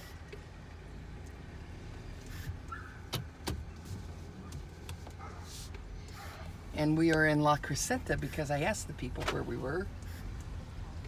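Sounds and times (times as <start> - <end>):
car rumble from inside cabin: 0.0 - 11.0.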